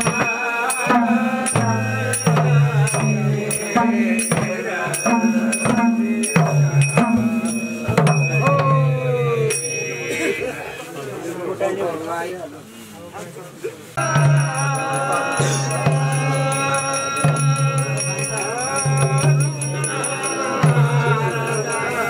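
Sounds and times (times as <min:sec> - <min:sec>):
hand drum beats: 0:00.0 - 0:09.8, 0:14.0 - 0:22.0
men singing: 0:00.0 - 0:11.0, 0:14.0 - 0:22.0.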